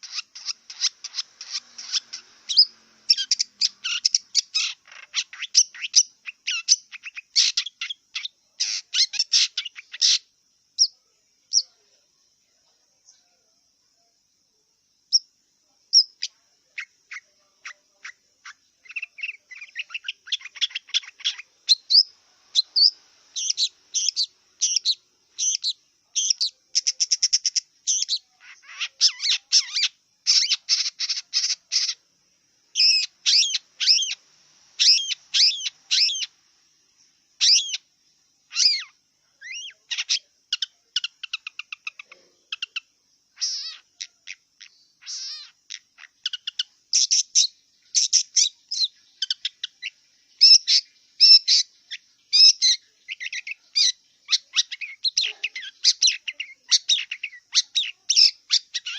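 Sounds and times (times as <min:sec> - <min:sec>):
bird singing varied song: 0:00.0 - 0:13.4, 0:15.0 - 0:36.4, 0:37.0 - 0:58.9.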